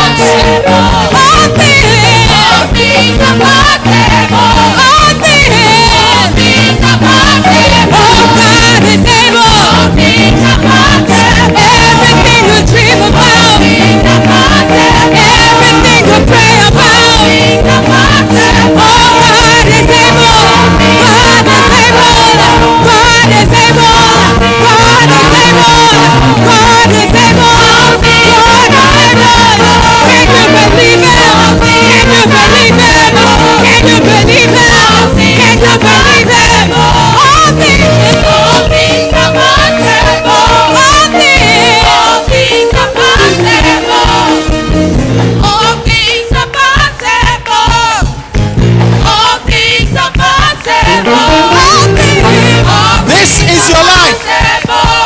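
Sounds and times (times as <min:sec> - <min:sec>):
choir singing: 0:00.0 - 0:48.2, 0:49.0 - 0:55.0
band playing gospel music: 0:00.0 - 0:55.0
bass line: 0:00.0 - 0:55.0
steady drum beat: 0:00.0 - 0:55.0.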